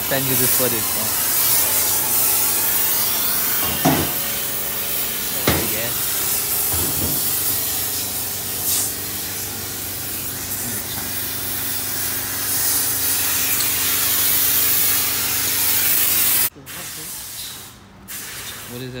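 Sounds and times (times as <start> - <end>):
cutting torch hissing: 0.0 - 19.0.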